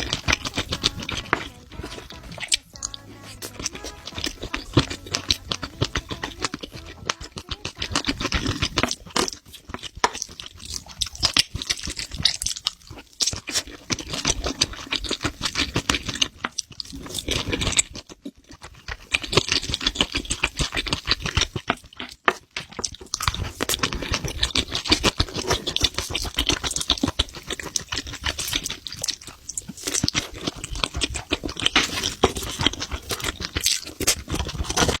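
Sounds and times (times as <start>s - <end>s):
person chewing crunchy food: 0.0s - 35.0s.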